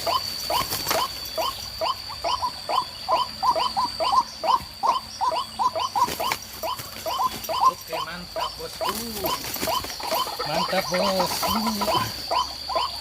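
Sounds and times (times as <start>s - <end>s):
thin steady high tone: 0.0s - 13.0s
waterhen calling: 0.0s - 13.0s.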